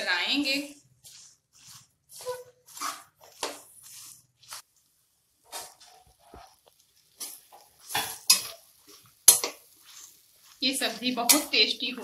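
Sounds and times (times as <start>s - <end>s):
spatula scraping a pan: 1.1s - 4.6s, 5.4s - 12.0s.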